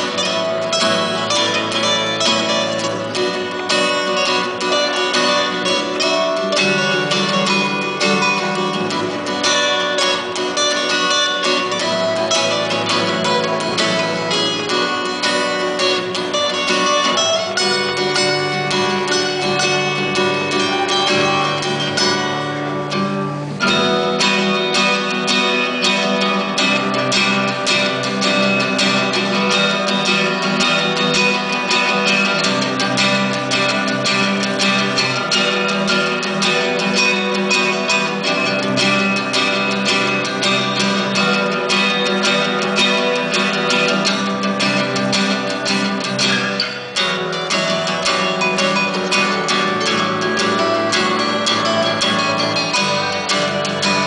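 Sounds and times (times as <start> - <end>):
acoustic guitar duet: 0.0 - 54.0.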